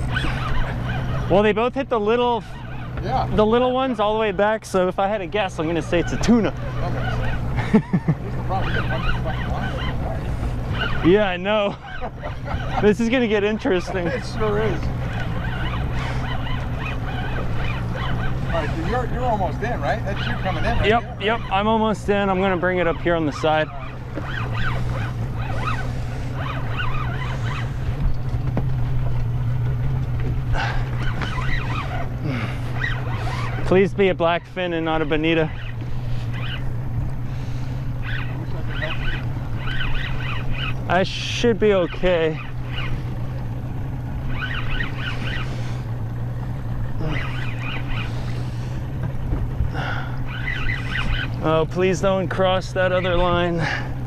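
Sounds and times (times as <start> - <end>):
fishing reel gears whining: 0.0 - 28.4, 30.5 - 54.0
outboard motor running: 0.0 - 54.0
water noise: 0.0 - 54.0.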